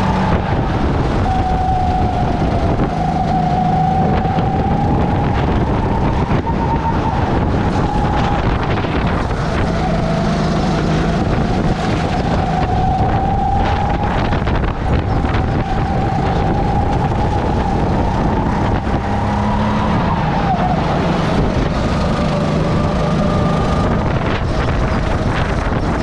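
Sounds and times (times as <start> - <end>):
kart engine running at speed: 0.0 - 26.0
wind rushing over microphone: 0.0 - 26.0.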